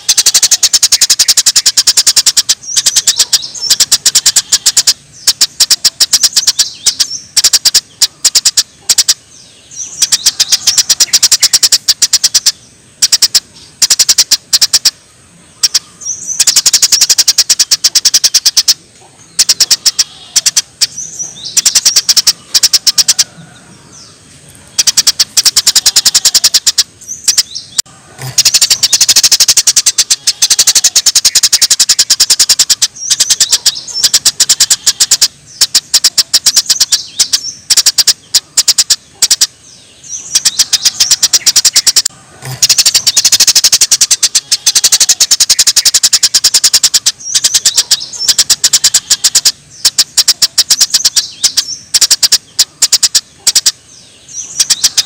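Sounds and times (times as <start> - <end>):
bird rapid rattling trills: 0.0 - 55.0.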